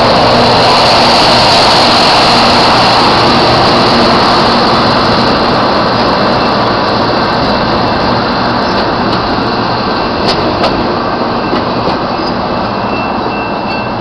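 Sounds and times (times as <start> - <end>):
train rolling on rails: 0.0 - 14.0.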